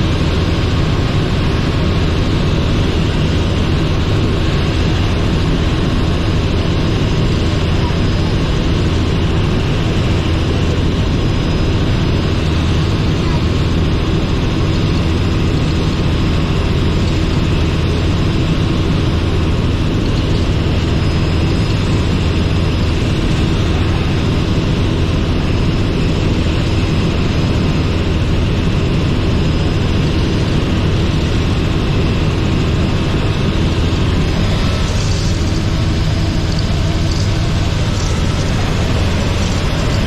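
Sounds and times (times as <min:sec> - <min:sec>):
helicopter drone in flight: 0:00.0 - 0:40.0.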